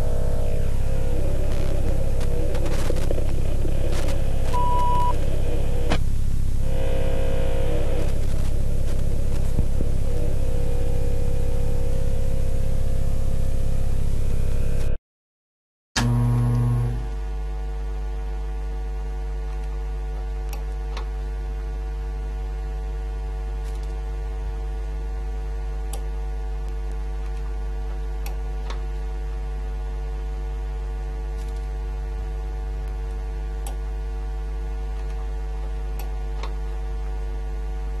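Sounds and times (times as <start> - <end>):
electrical hum: 0.0 - 15.0, 16.0 - 38.0.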